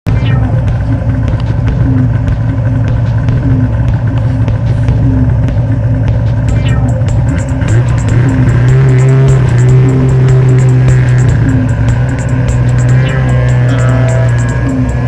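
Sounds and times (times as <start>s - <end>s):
music playing: 0.1s - 15.0s
snowmobile engine running: 0.1s - 15.0s.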